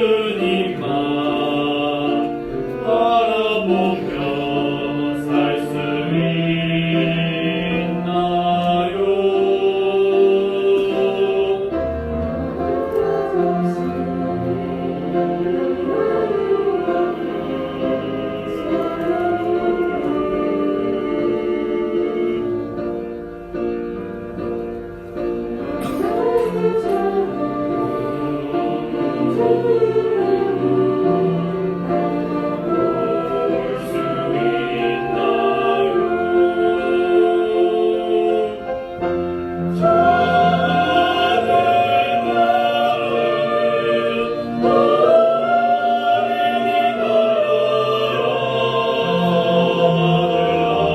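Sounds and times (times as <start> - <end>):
choir singing a hymn: 0.0 - 50.9
orchestra playing: 0.0 - 50.9.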